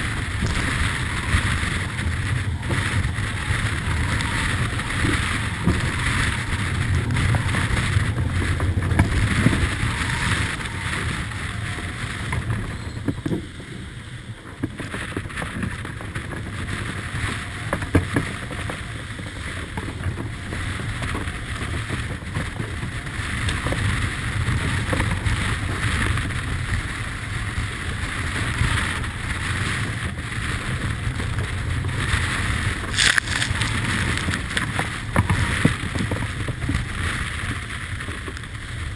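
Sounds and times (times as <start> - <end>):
sea rushing along hull: 0.0 - 38.9
wind buffeting microphone: 0.0 - 38.9.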